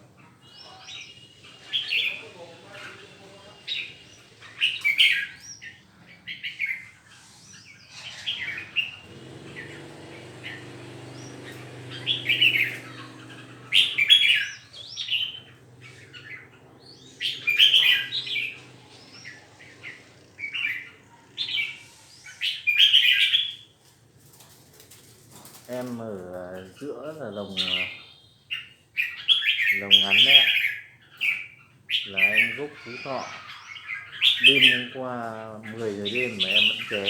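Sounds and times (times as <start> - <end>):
songbirds chirping and singing: 0.0 - 37.0.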